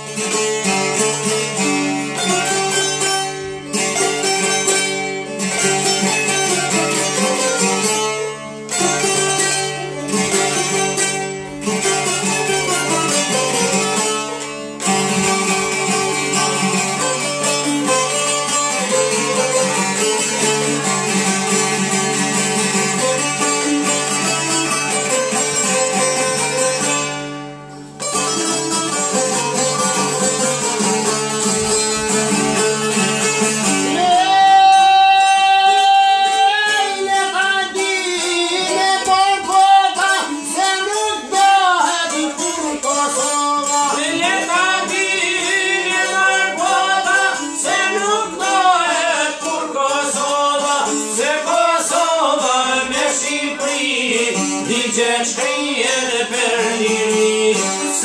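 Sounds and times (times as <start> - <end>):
long-necked lutes playing a folk tune: 0.0 - 58.0.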